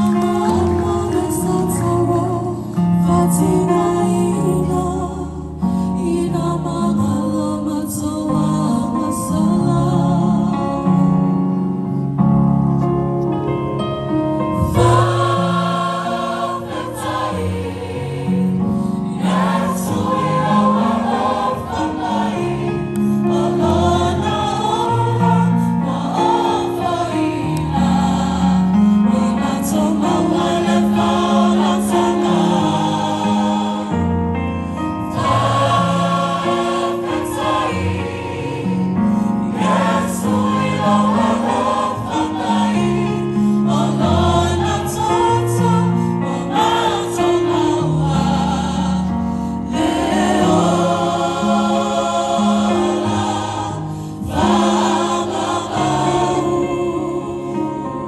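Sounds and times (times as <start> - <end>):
choir singing: 0.0 - 11.0, 14.6 - 34.4, 35.0 - 58.0.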